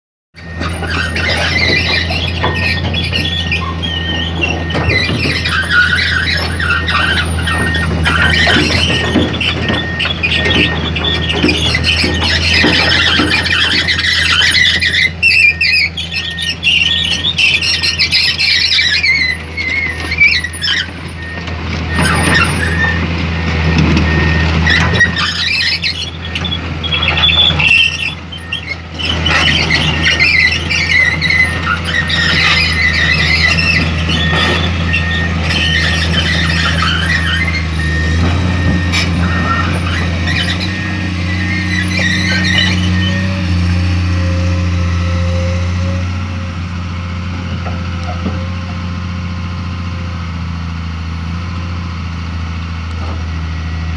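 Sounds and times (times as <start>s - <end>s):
high-pitched metallic squealing: 0.4s - 46.6s
excavator diesel engine running: 0.4s - 53.9s.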